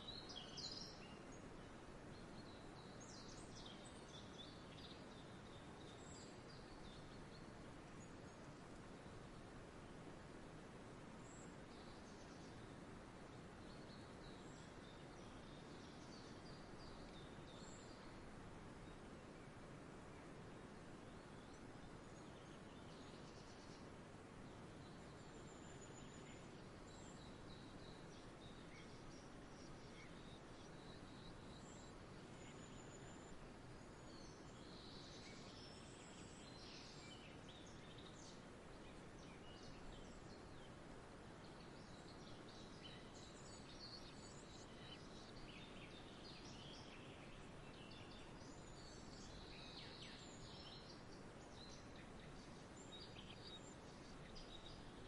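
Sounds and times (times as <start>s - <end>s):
distant small birds chirping: 0.0s - 55.0s
low background hiss: 0.0s - 55.0s.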